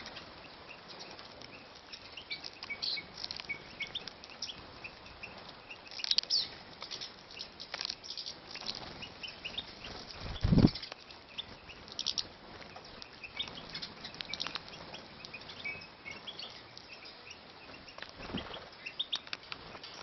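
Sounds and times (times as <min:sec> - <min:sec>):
finches chirping: 0:00.0 - 0:20.0
birds tapping in cages: 0:00.8 - 0:20.0.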